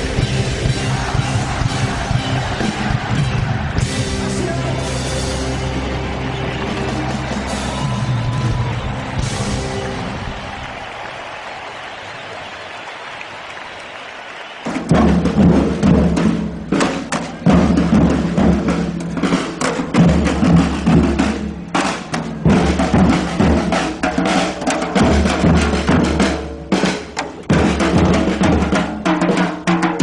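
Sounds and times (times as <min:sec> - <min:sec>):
percussion group drumming: 0:00.0 - 0:10.9, 0:14.6 - 0:30.0.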